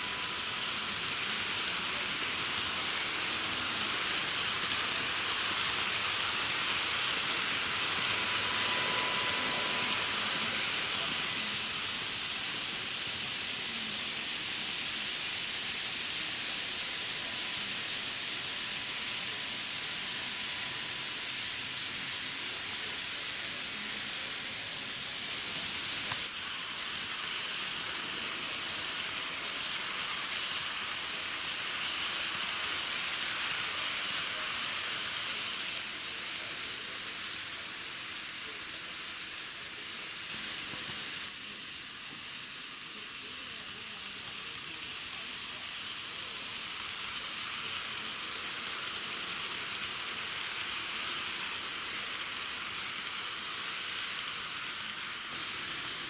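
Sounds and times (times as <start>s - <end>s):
model train whirring on track: 0.0s - 56.0s.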